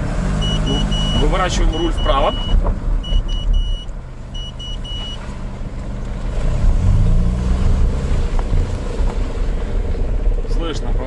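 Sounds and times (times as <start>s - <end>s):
car differential crackling: 0.0s - 11.0s
car engine running: 0.0s - 11.0s.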